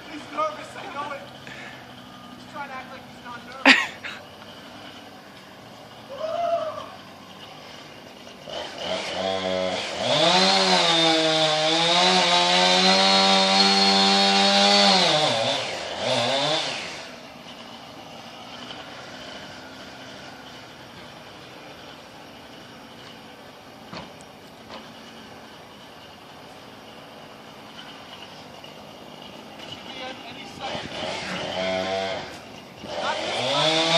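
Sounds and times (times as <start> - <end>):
chainsaw revving: 0.0 - 23.7, 26.6 - 33.9.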